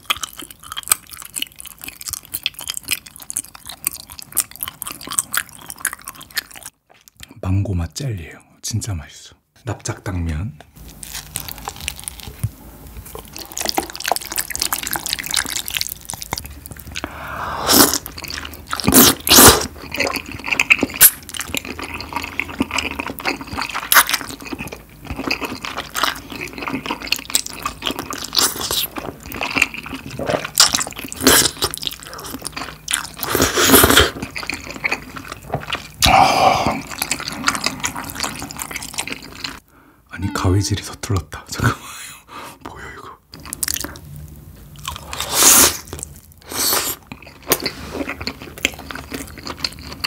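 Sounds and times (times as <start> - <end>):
noodles slurping and chewing: 0.0 - 7.3, 10.8 - 39.6, 44.8 - 50.0.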